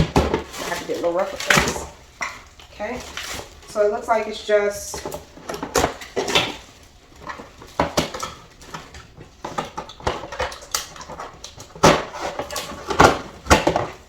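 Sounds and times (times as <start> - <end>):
cardboard packaging rustling: 0.0 - 14.0.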